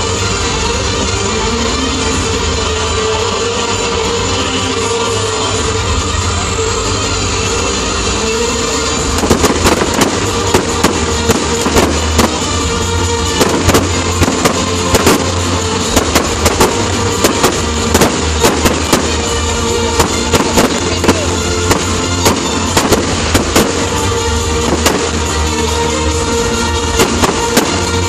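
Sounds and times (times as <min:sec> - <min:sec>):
fireworks bursting: 0:00.0 - 0:28.0
loud music: 0:00.0 - 0:28.0.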